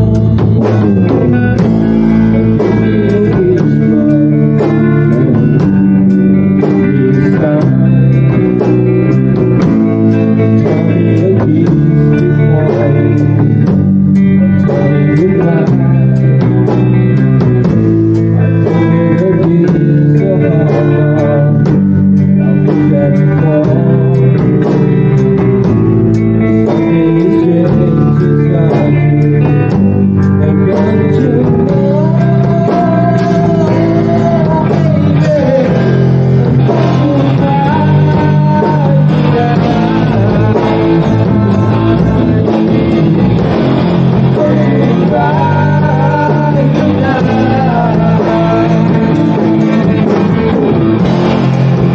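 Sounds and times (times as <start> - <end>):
bending melody line: 0.0 - 51.9
guitar-led rock music: 0.0 - 51.9.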